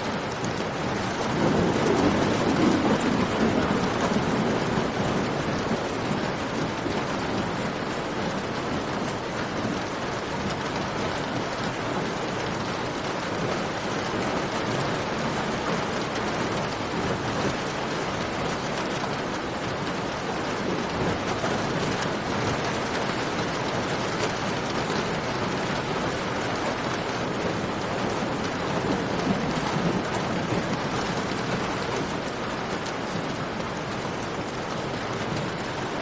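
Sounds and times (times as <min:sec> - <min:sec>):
dense rain falling: 0:00.0 - 0:36.0.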